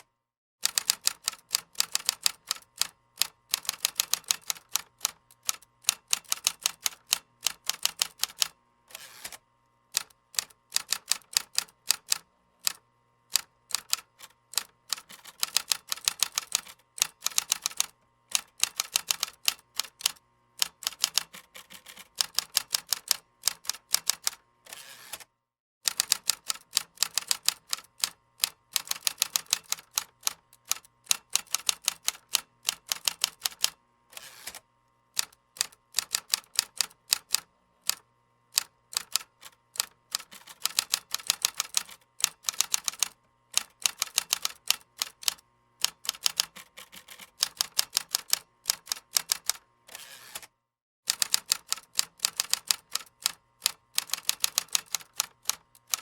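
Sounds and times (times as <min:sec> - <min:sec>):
typing on computer keyboard: 0:00.6 - 0:08.6, 0:10.0 - 0:24.4, 0:25.9 - 0:33.8, 0:35.2 - 0:38.0, 0:38.6 - 0:49.6, 0:51.1 - 0:56.0.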